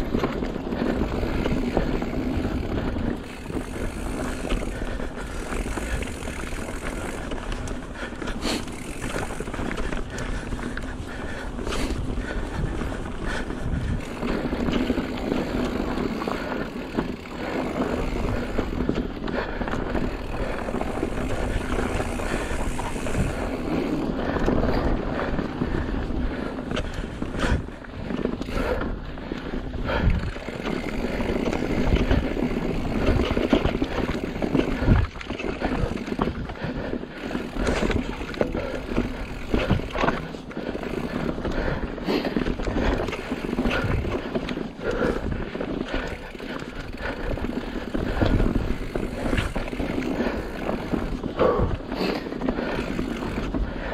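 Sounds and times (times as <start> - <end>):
bike rattling: 0.0 - 53.9
tyres rolling on dirt: 0.0 - 53.9.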